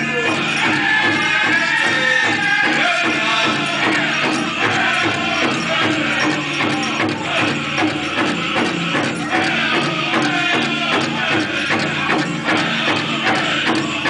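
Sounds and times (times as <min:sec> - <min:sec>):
big drum beat: 0:00.0 - 0:14.0
group singing high-pitched: 0:00.0 - 0:14.0
jingling bells: 0:00.0 - 0:14.0.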